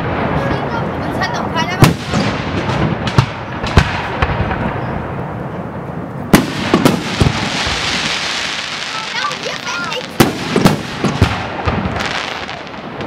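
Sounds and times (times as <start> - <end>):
fireworks display noise: 0.0 - 13.0.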